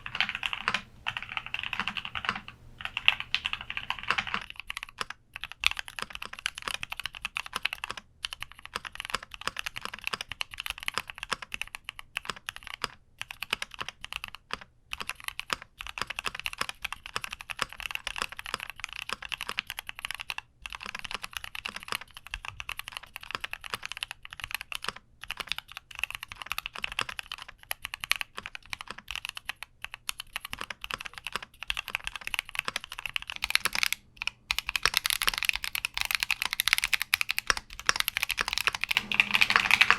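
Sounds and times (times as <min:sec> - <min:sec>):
mechanical keyboard key clacks: 0:00.0 - 0:39.9.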